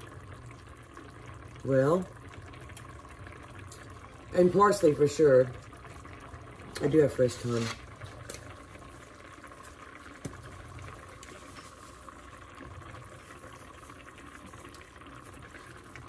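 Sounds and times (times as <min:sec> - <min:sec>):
stew bubbling in a pot: 0:00.0 - 0:16.0.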